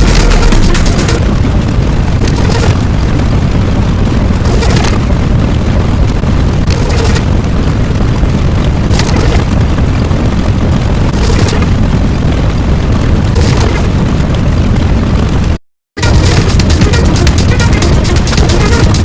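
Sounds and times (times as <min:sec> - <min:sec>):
deep continuous rumble: 0:00.0 - 0:19.0.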